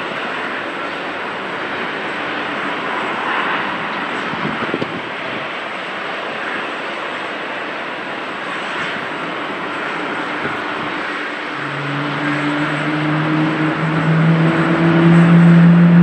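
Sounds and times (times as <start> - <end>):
jet engine roar and hiss: 0.0 - 16.0.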